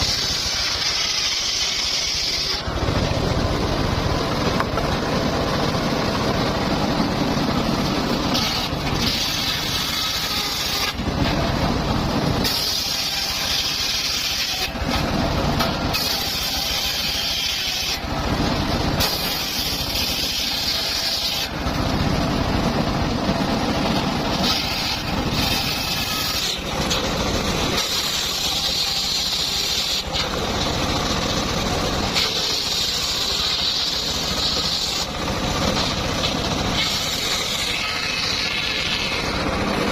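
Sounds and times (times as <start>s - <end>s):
circular saw running: 0.0s - 39.9s
saw cutting through timber: 0.0s - 39.9s.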